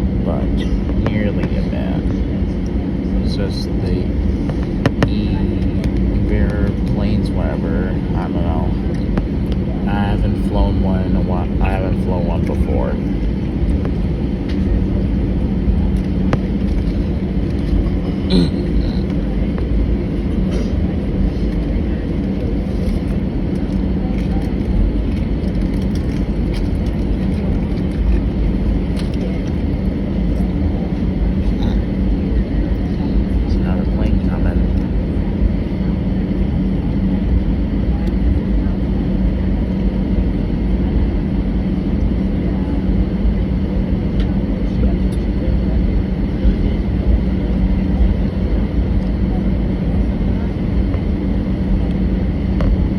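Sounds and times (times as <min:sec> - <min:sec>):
aircraft cabin rumble: 0:00.0 - 0:52.9.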